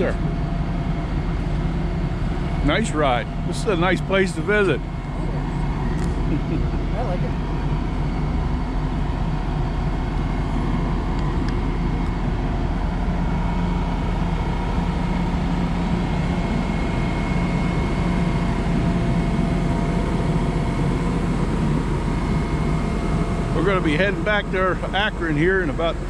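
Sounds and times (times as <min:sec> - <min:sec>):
faint whining tones: 0:00.0 - 0:26.0
train machinery humming: 0:00.0 - 0:26.0.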